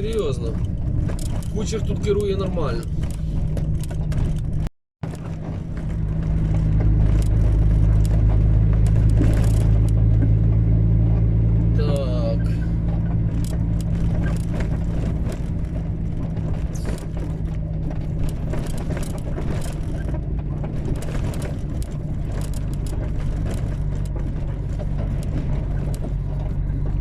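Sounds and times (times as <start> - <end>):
small knocks and rattles: 0.0 - 11.4, 12.8 - 27.0
road noise: 0.0 - 27.0
truck engine running: 0.0 - 27.0.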